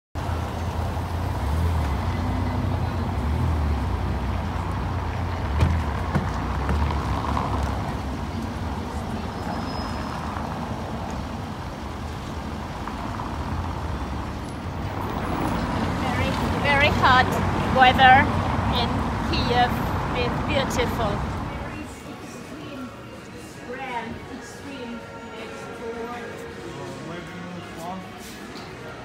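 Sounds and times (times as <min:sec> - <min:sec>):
street traffic: 0:00.2 - 0:29.0.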